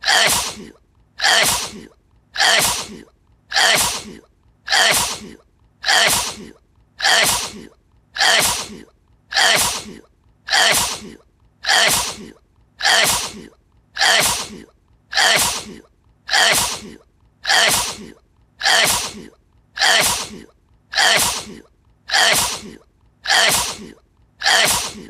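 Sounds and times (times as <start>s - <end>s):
person sneezing: 0.0s - 25.0s.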